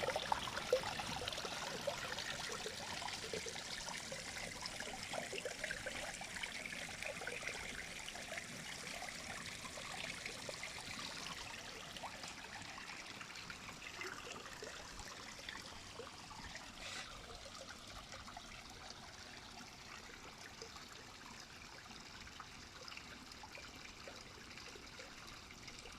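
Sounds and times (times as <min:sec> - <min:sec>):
water trickling in aquarium: 0:00.0 - 0:25.9.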